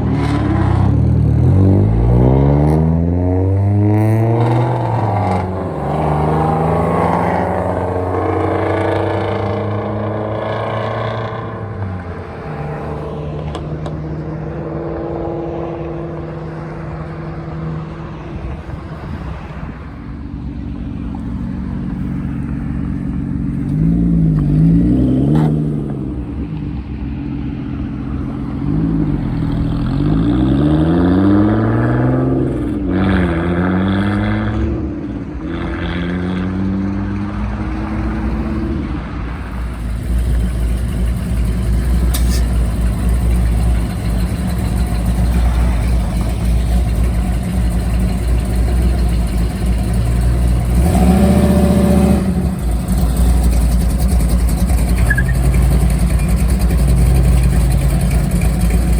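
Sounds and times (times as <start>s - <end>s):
low engine rumble: 0.0s - 30.6s, 34.6s - 58.9s
car engine revving: 0.0s - 58.9s.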